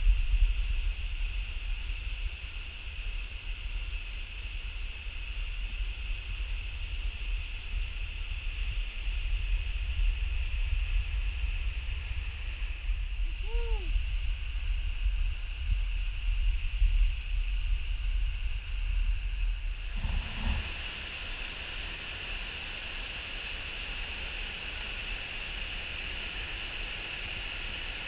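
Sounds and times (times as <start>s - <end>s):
wind rumble on microphone: 0.0s - 28.0s
high insect drone: 1.5s - 28.0s.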